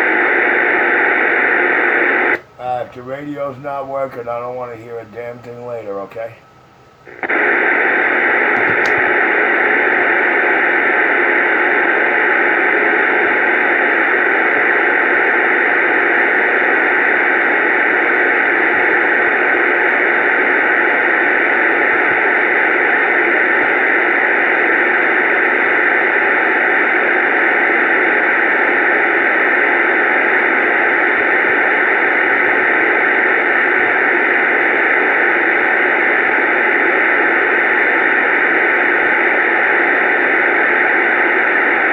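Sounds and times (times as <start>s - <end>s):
radio static hiss: 0.0s - 41.9s.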